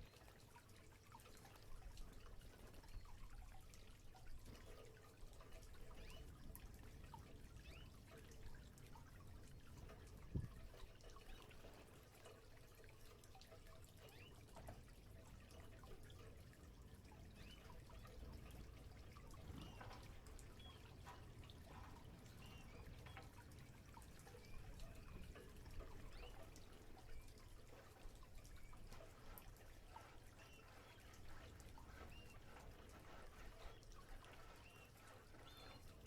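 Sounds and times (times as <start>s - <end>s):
water splashing and dripping: 0.0s - 36.0s.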